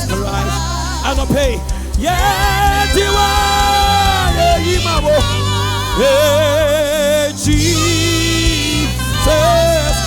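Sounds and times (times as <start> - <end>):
band accompaniment with bass: 0.0 - 10.0.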